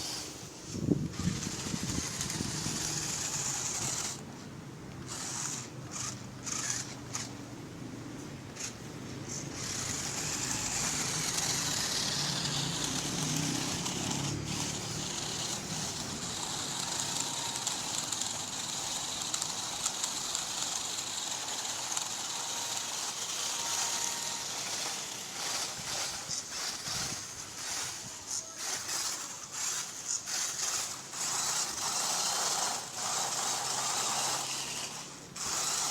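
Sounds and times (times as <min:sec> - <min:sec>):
rc car motor and gears whirring: 0:00.0 - 0:04.3, 0:05.0 - 0:07.5, 0:08.5 - 0:35.9.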